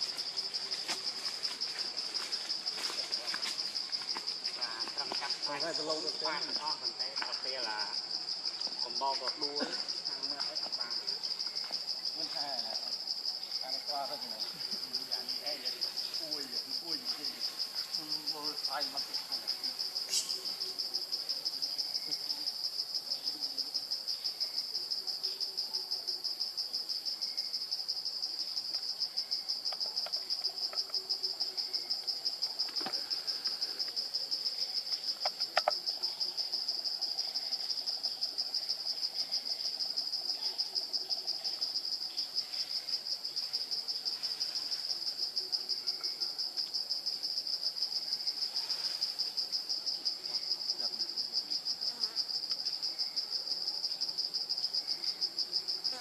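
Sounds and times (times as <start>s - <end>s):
insects buzzing in a pulsing chorus: 0.0s - 56.0s.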